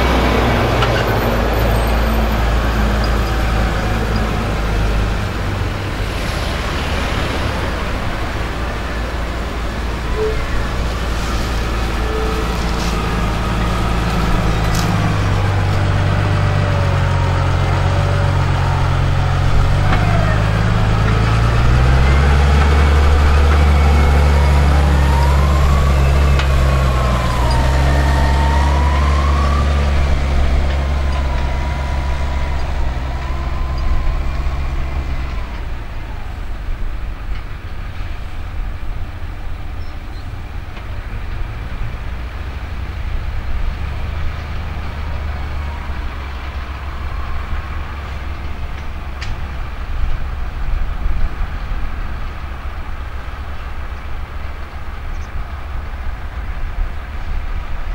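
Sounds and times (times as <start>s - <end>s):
heavy diesel engine humming: 0.0s - 57.9s.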